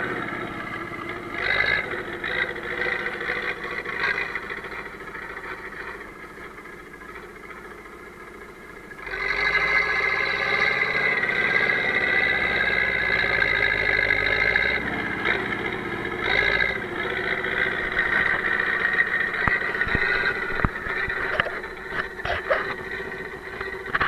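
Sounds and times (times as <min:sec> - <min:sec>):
dozer blade pushing snow: 0:00.0 - 0:24.0
tractor diesel engine under load: 0:00.0 - 0:24.0.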